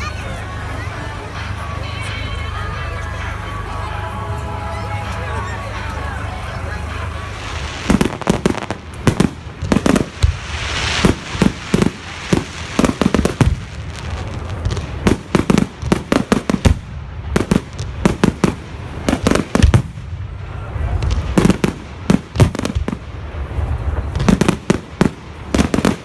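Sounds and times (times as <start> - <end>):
fireworks bangs: 4.7 - 26.0.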